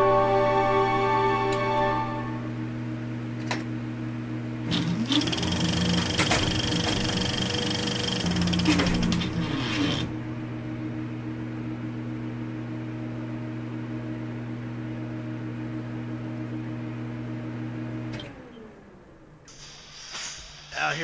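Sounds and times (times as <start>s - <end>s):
mechanical hum with low drone: 0.0s - 21.0s.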